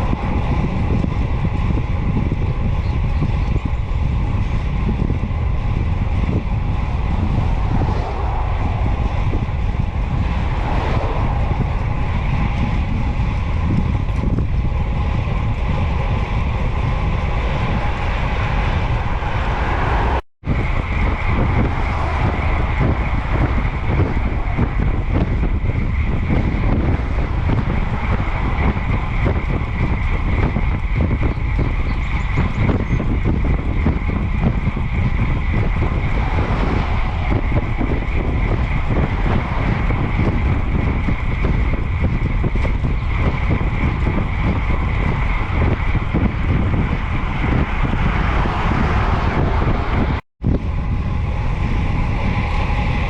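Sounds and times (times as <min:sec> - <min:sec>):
road noise: 0:00.0 - 0:53.0
wind buffeting microphone: 0:00.0 - 0:53.0.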